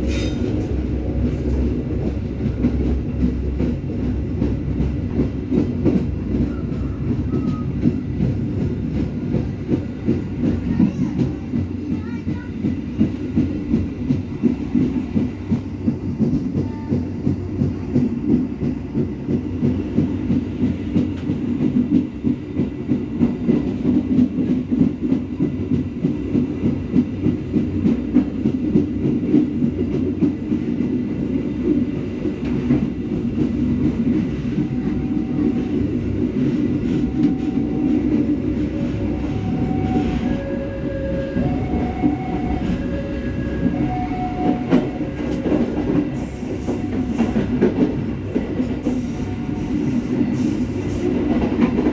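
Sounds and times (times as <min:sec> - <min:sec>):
train wheels rumbling and clattering: 0:00.0 - 0:51.9.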